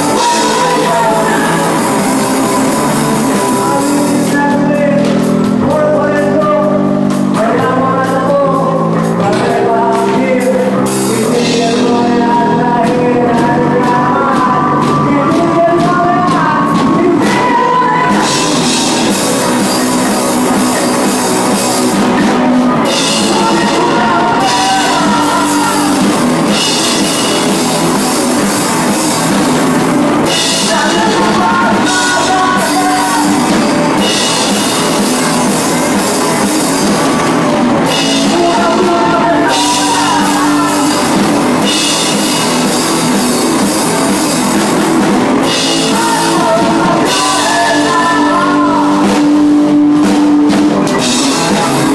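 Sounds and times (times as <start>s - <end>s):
bass guitar: 0.0s - 51.9s
drum kit with cymbals: 0.0s - 51.9s
electric guitars: 0.0s - 51.9s
person singing: 0.0s - 51.9s.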